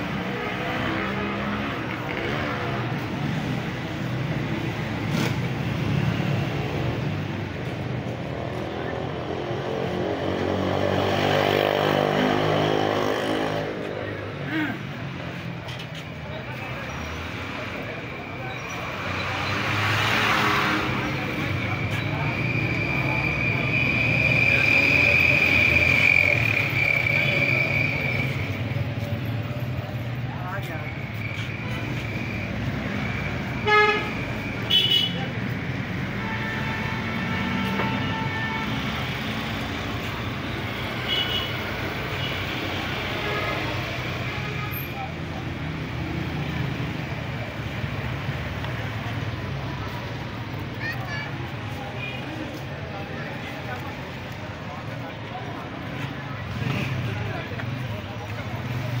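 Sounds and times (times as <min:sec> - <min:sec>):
busy street noise: 0:00.0 - 0:59.0
traffic rumble: 0:00.0 - 0:59.0.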